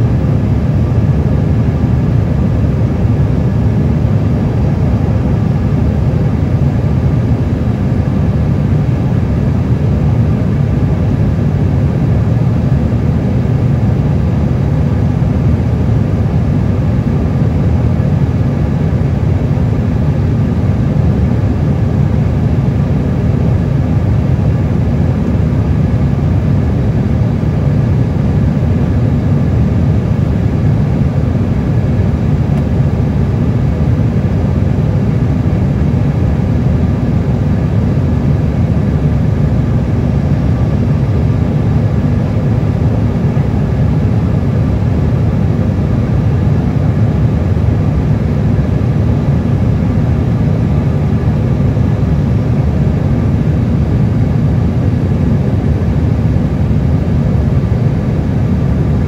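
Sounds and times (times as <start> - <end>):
airliner cabin engine roar: 0.0 - 59.0.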